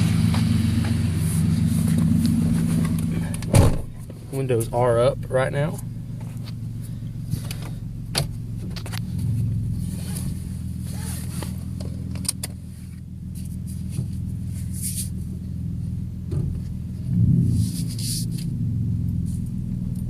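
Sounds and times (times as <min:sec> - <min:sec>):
truck engine drone inside cab: 0:00.0 - 0:20.0.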